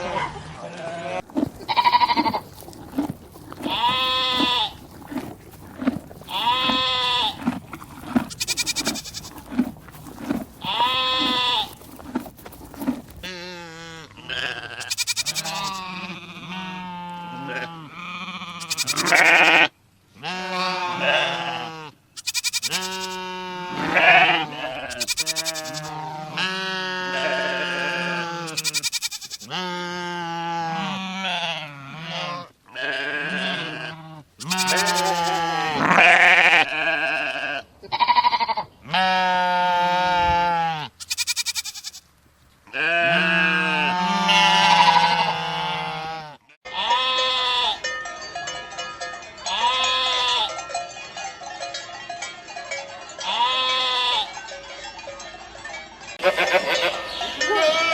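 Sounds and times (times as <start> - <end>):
sheep bleating: 0.7 - 5.2, 5.8 - 11.9, 13.2 - 42.0, 42.7 - 47.9, 53.2 - 54.4, 56.2 - 57.9.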